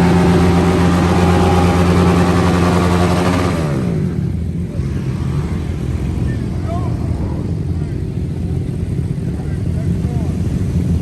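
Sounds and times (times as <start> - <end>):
bike engine revving: 0.0 - 9.5.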